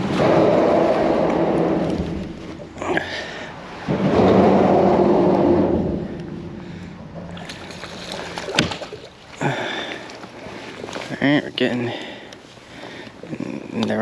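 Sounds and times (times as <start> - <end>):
water splashing at kayak side: 0.0 - 14.0.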